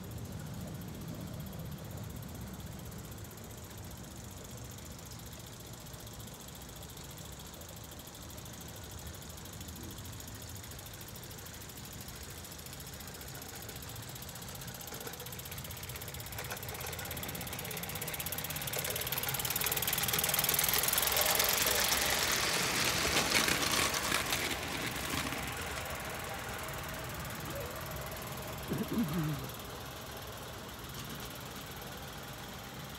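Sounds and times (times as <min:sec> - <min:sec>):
miniature train running on track: 0:00.0 - 0:32.9.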